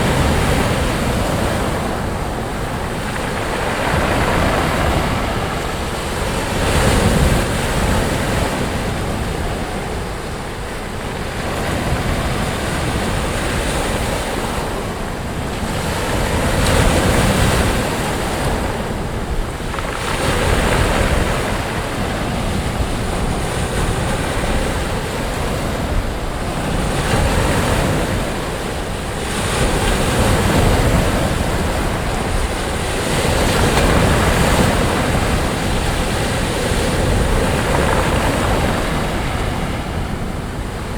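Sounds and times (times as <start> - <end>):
waves breaking on a beach: 0.0 - 40.9
wind on microphone: 0.0 - 40.9.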